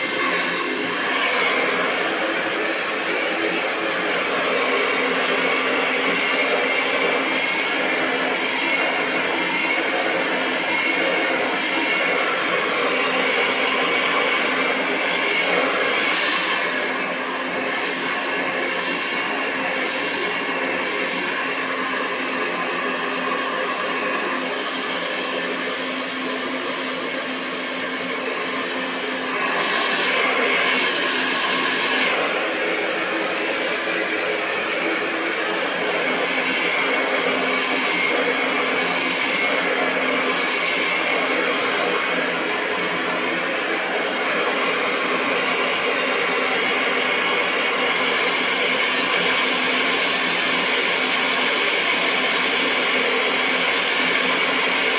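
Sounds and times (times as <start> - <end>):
hair dryer blowing: 0.0 - 54.9.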